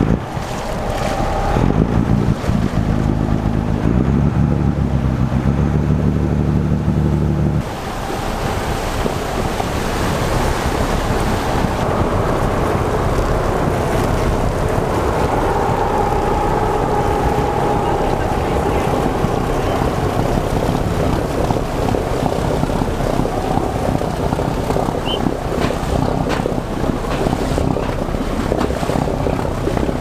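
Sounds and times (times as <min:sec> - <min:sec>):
heavy diesel engines: 0:00.0 - 0:30.0
wind and water rushing: 0:00.0 - 0:30.0.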